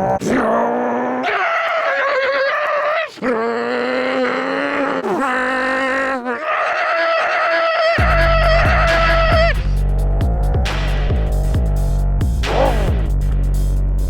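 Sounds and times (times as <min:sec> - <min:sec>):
man imitating engine by mouth: 0:00.0 - 0:13.2.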